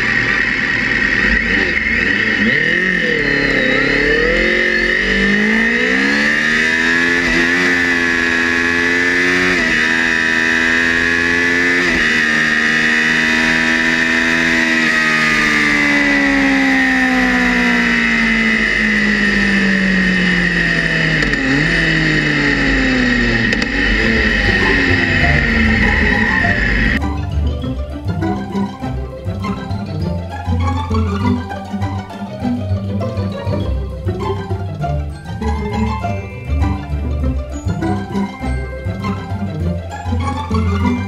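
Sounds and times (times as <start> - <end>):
motorcycle engine revving: 0.0 - 27.0, 28.2 - 41.0.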